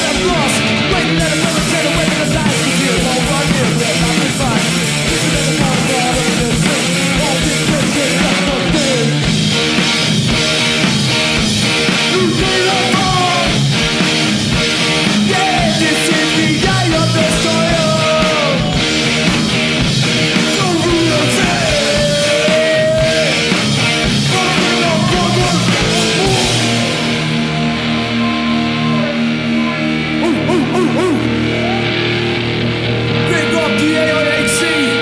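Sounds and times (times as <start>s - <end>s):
bass guitar: 0.0s - 35.0s
distorted electric guitars: 0.0s - 35.0s
drums: 0.0s - 35.0s.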